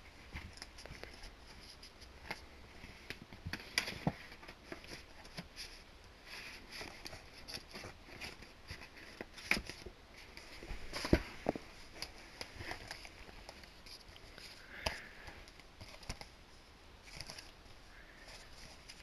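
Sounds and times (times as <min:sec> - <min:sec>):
soft packaging rustling: 0:00.0 - 0:19.0.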